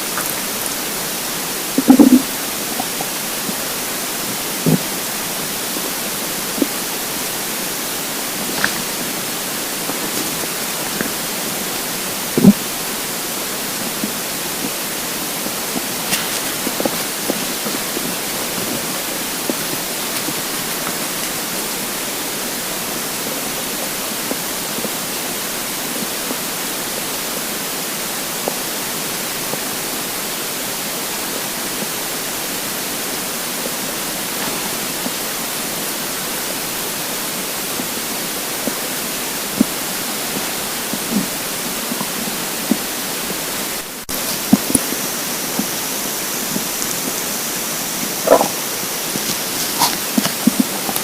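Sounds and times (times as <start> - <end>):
faint stomach gurgles: 0.0 - 51.0
microphone hiss: 0.0 - 51.0.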